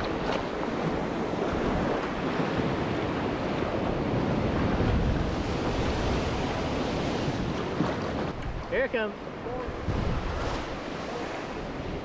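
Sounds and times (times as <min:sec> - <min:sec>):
ocean surf washing: 0:00.0 - 0:12.0
wind rumbling on microphone: 0:00.0 - 0:12.0.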